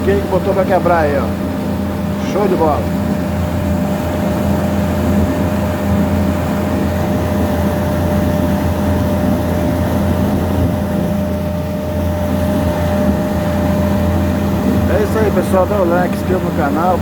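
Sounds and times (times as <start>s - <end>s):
ferry engine droning: 0.0s - 17.0s.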